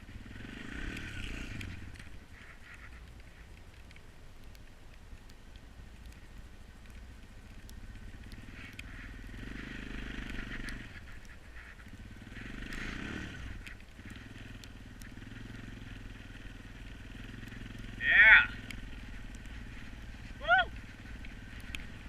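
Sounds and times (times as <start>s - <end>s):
wheels spinning on ice: 0.0s - 22.0s.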